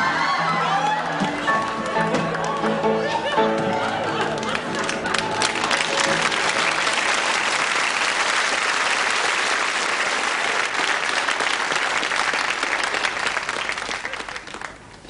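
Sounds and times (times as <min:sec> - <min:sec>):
studio audience applauding: 0:00.0 - 0:15.0.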